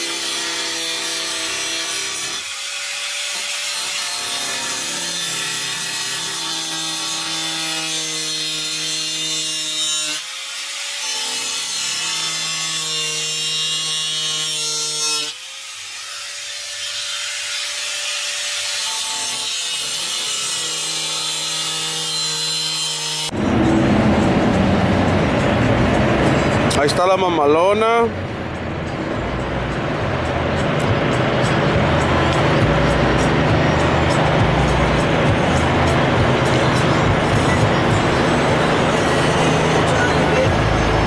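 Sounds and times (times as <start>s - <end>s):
angle grinder cutting metal: 0.0s - 24.2s, 30.6s - 41.0s.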